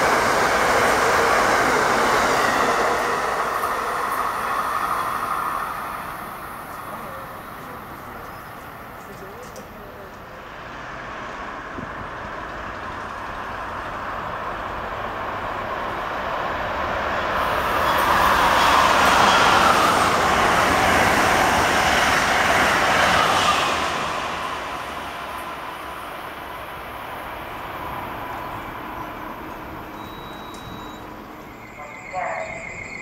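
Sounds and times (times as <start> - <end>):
high-speed train passing: 0.0 - 33.0.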